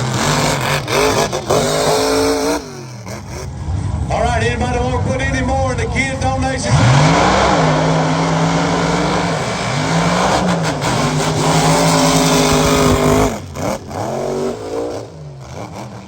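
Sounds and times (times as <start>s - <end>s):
truck engine revving hard: 0.0s - 16.0s.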